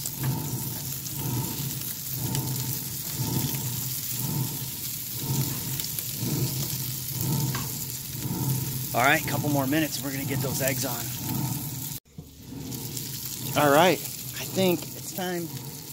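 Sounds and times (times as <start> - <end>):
meat sizzling on a griddle: 0.0 - 15.9
low hum: 0.1 - 15.9.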